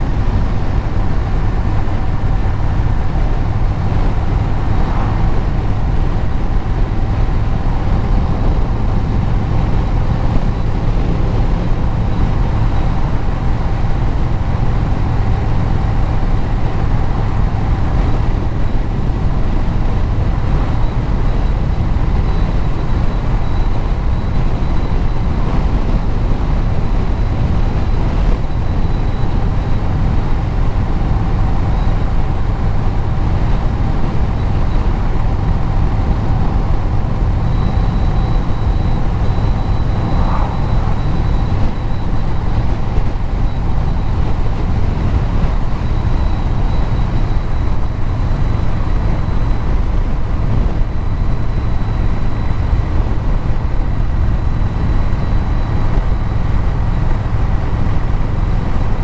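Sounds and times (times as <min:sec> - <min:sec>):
road noise: 0:00.0 - 0:59.0
vehicle engine running: 0:00.0 - 0:59.0.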